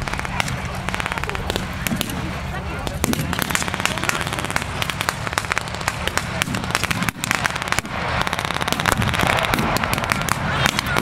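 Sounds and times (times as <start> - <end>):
rapid blank gunfire: 0.0 - 11.0
steady low rumble: 0.0 - 11.0.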